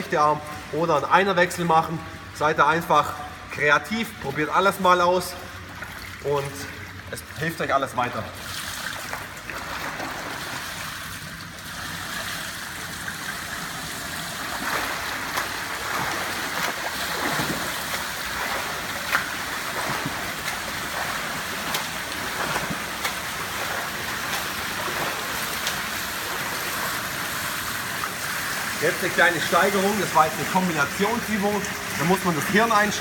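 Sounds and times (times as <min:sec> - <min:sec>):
swimmer splashing water: 0:00.0 - 0:33.0.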